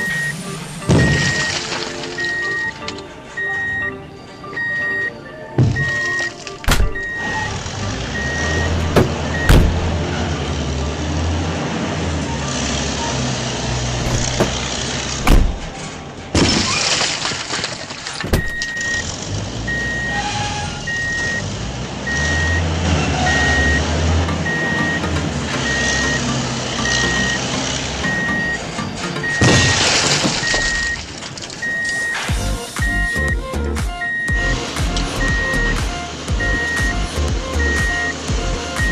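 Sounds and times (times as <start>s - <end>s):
truck reversing alarm beeping: 0.0s - 11.0s, 12.2s - 15.8s, 18.3s - 38.9s
low engine rumble: 0.0s - 16.6s, 18.1s - 38.9s.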